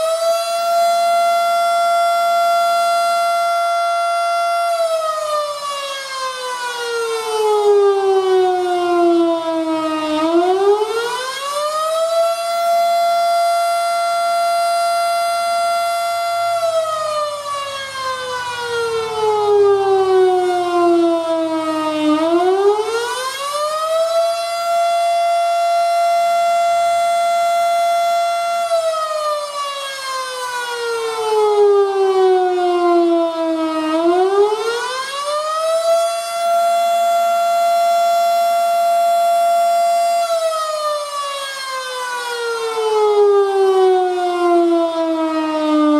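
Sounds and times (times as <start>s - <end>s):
wailing warning siren: 0.0s - 45.9s.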